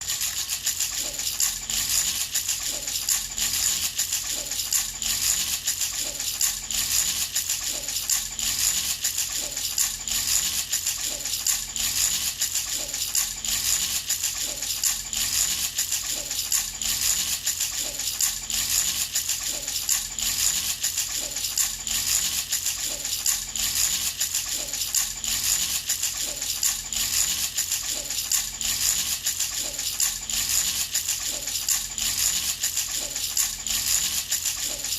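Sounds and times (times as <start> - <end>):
baby rattle shaking: 0.0 - 34.9.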